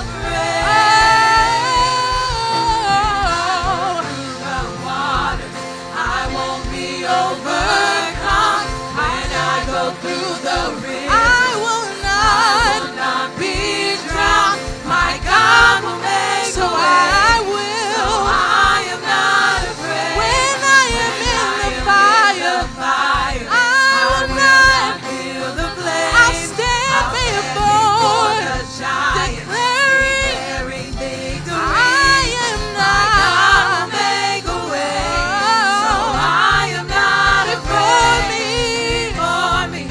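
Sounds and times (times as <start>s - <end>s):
gospel band with choir singing: 0.0s - 39.9s.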